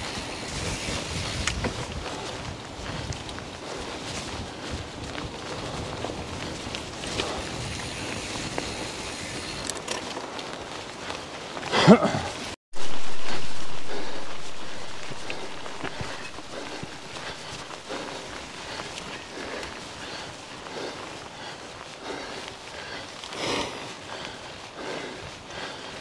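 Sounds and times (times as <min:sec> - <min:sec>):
bike rattling on trail: 0:00.0 - 0:26.0
wind buffeting microphone: 0:00.0 - 0:26.0.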